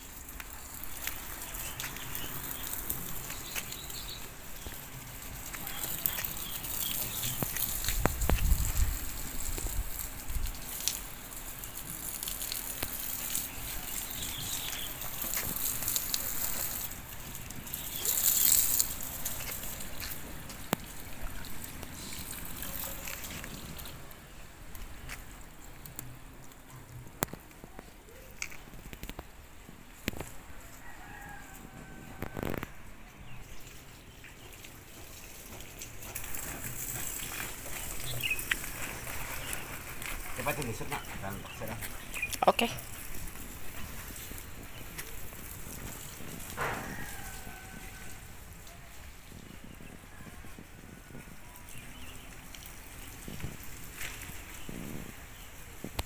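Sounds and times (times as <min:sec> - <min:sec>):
water from garden hose splashing: 0:00.0 - 0:26.6, 0:33.4 - 0:56.0.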